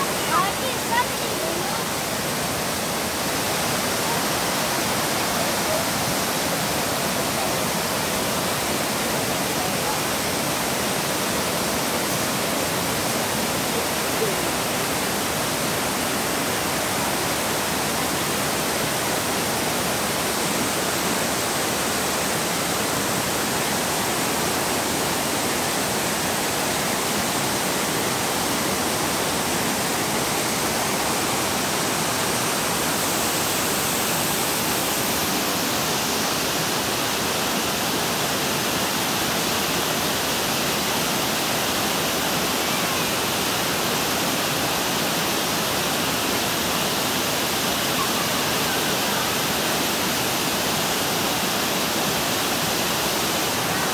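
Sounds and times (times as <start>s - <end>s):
waterfall splashing onto stones: 0.0s - 53.9s.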